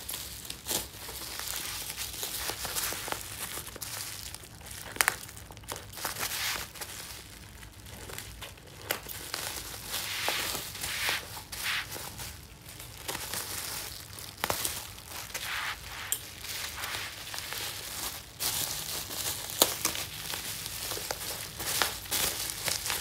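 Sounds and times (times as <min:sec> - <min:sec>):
bubble wrap crinkling: 0:00.0 - 0:23.0.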